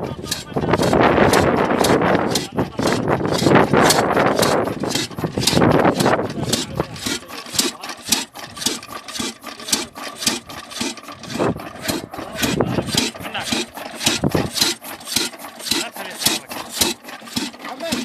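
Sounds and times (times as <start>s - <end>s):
diesel engine clattering: 0.0s - 18.0s.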